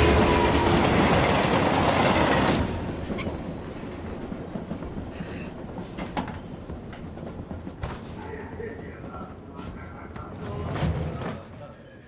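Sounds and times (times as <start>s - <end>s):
train running along rails: 0.0s - 12.0s.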